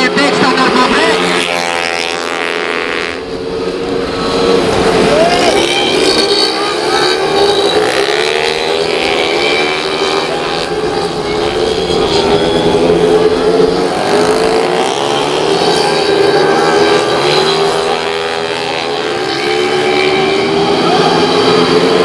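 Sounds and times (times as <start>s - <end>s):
scooter engines revving: 0.0s - 22.0s.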